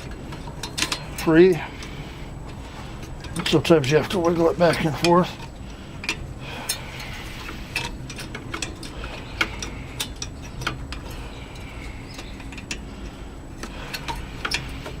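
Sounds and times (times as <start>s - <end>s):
light clicks and taps of parts: 0.0s - 15.0s.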